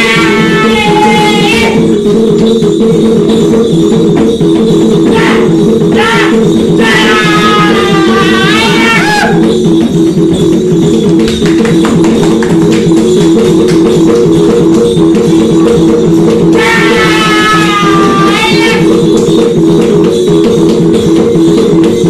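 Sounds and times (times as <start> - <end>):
jingling percussion: 0.0 - 22.0.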